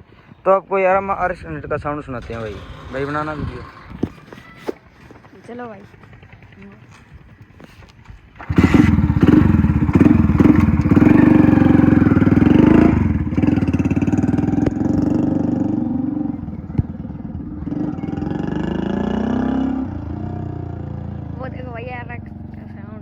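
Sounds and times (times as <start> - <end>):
motorcycle engine exhaust pulses: 2.2 - 23.0.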